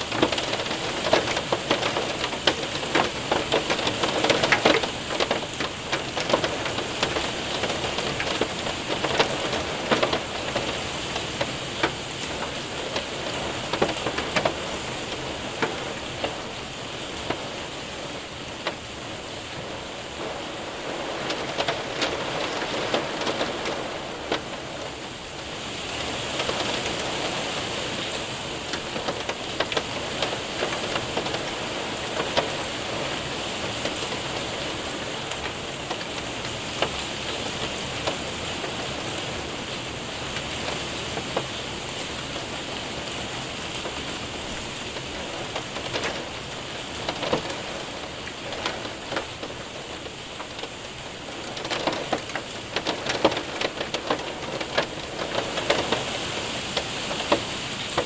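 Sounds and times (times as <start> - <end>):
hailstones ticking on window: 0.0 - 58.0
heavy rain hissing: 0.0 - 58.0.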